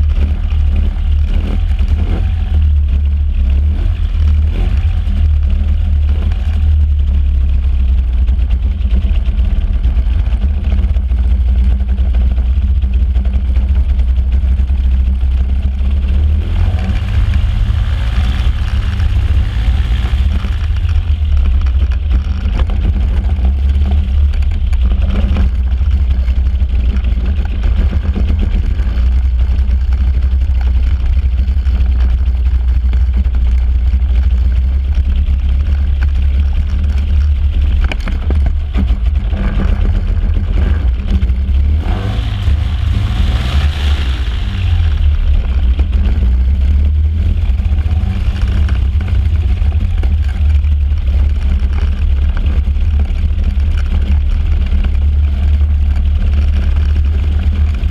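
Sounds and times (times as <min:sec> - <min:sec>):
rough-running propeller engine: 0:00.0 - 0:57.9.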